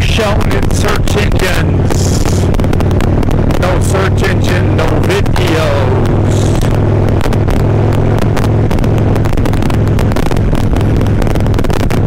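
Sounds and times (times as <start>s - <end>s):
wind buffeting microphone: 0.0s - 5.4s, 6.0s - 12.0s
motorcycle engine cruising: 0.0s - 12.0s.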